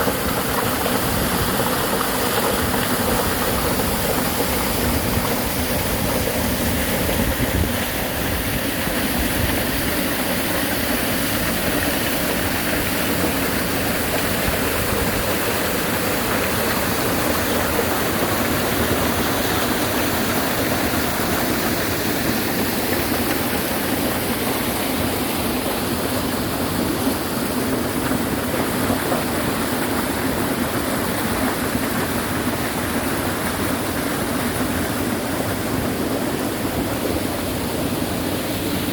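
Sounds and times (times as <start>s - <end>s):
stream water rushing over rocks: 0.0s - 38.9s.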